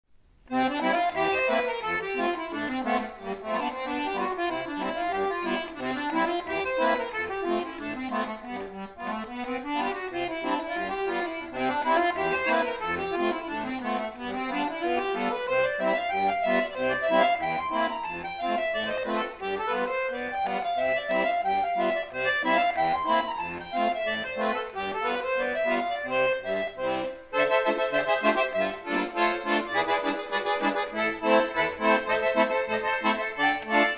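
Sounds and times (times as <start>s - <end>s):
solo accordion playing: 0.4s - 33.9s.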